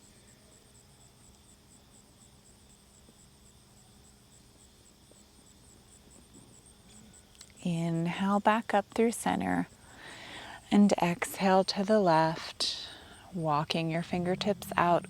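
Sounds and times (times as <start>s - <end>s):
faint cricket chirping: 0.0s - 15.0s.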